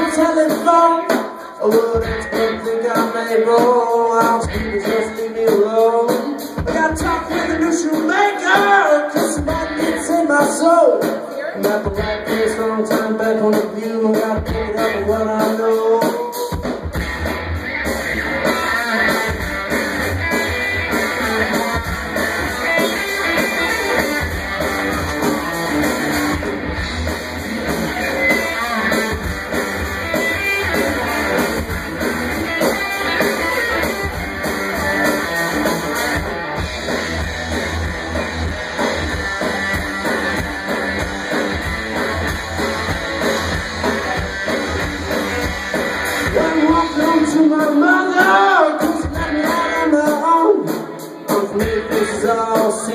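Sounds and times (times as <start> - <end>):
bass guitar: 0.0 - 52.9
drums keeping a steady beat: 0.0 - 52.9
electric guitar: 0.0 - 52.9.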